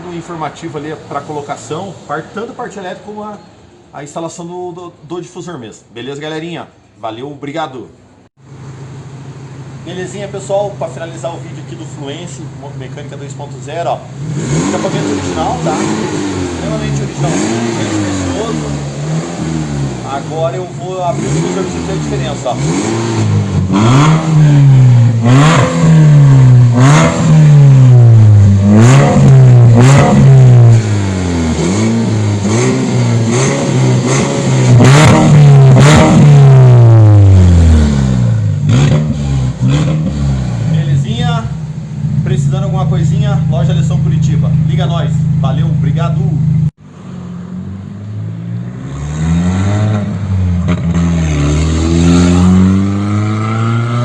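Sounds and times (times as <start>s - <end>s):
car engine revving: 8.4s - 54.0s.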